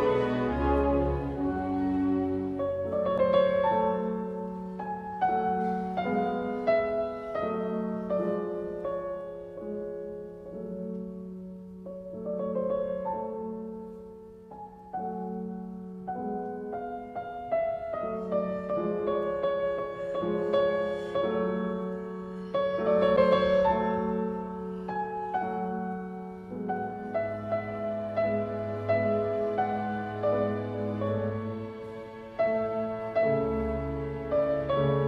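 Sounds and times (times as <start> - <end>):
slow piano playing: 0.0 - 35.0.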